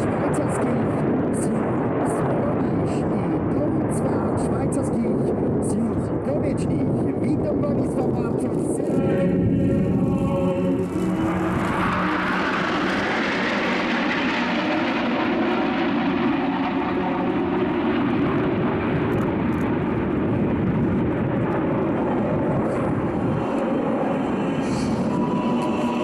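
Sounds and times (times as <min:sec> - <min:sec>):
jet aircraft flying overhead: 0:00.0 - 0:26.0.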